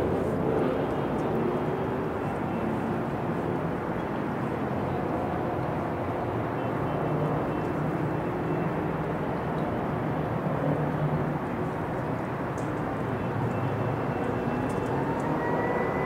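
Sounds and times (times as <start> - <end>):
low rumble of engines: 0.0 - 16.0.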